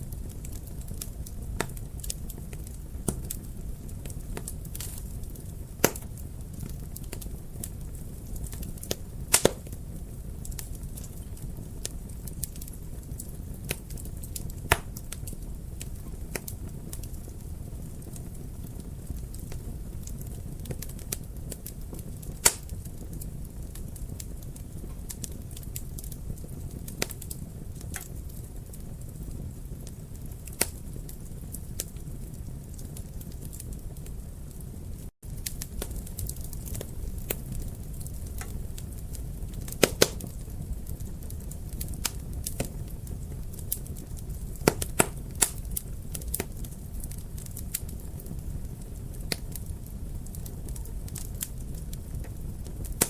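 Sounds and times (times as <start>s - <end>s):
fire sharp pops: 0.0s - 34.6s, 35.2s - 53.0s
fire crackling: 0.0s - 53.0s
fire flames rumbling: 0.0s - 53.0s.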